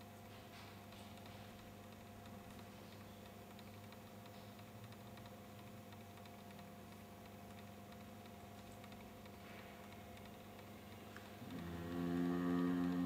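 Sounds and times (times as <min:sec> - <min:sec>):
faint small ticks: 0:00.0 - 0:13.0
steady low hum: 0:00.0 - 0:13.0.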